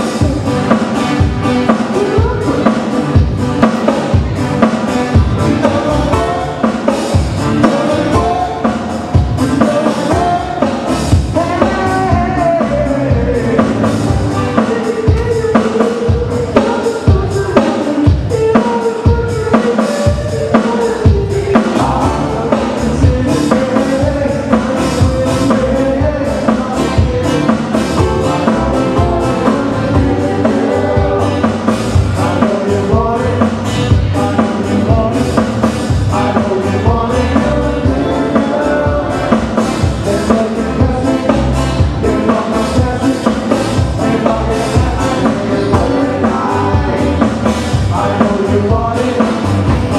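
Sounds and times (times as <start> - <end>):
drum kit beat: 0.0 - 49.9
live band music: 0.0 - 49.9.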